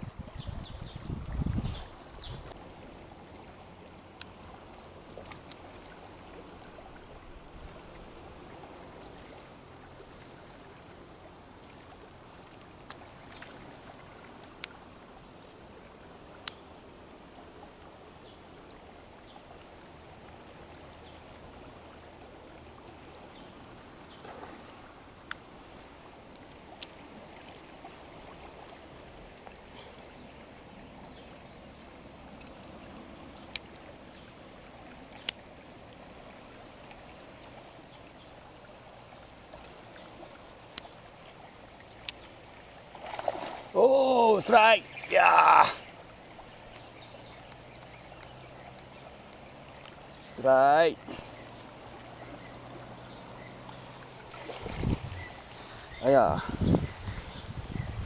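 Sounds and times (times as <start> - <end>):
flowing river water: 0.0 - 58.0
rain: 2.0 - 58.0.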